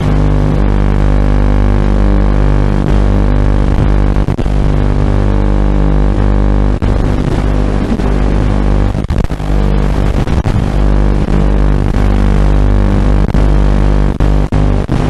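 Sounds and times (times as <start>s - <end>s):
steady electronic buzz: 0.0s - 15.0s.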